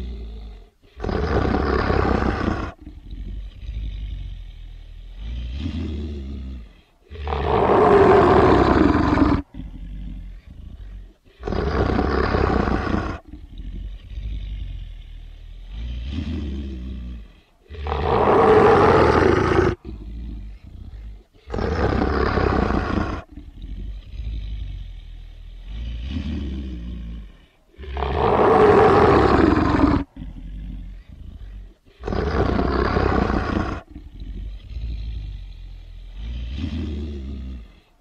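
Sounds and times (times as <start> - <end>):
animal roars: 0.0 - 37.8
animal growls: 0.0 - 38.0.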